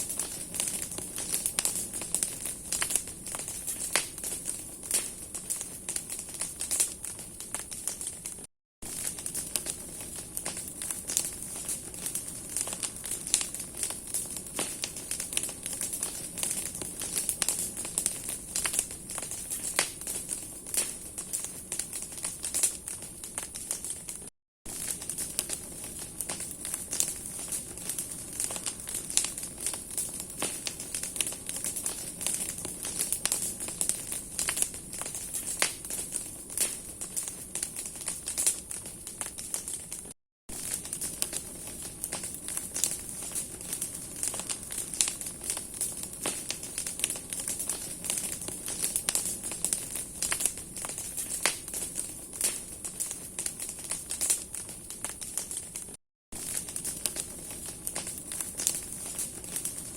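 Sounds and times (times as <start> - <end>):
bonfire crackling: 0.0 - 59.9
flame hissing: 8.9 - 24.0, 24.8 - 39.9, 40.6 - 55.6, 56.4 - 59.9.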